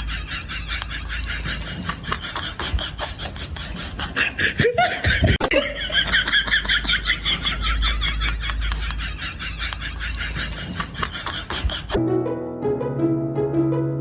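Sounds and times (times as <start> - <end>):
person laughing in rapid pulses: 0.0 - 12.0.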